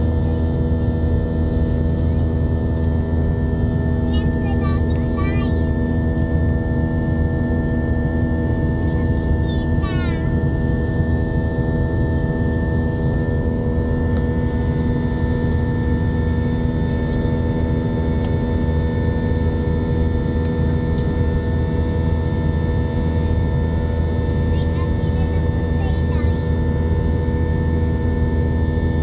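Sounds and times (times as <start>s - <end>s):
jet engine drone in cabin: 0.0s - 29.0s.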